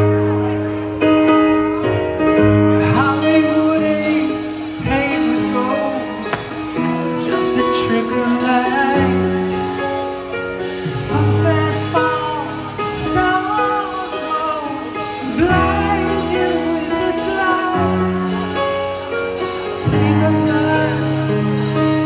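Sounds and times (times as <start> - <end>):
hard rock band playing: 0.0 - 22.0
lead singer vocal: 2.4 - 22.0.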